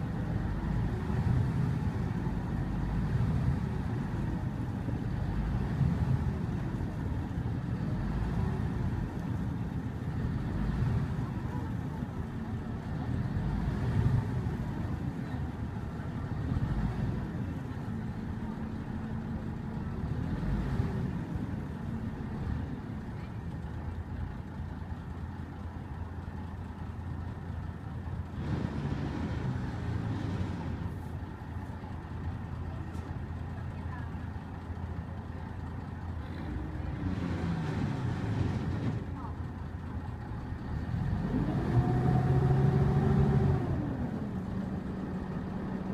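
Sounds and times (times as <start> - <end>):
boat engine rumbling: 0.0 - 45.9.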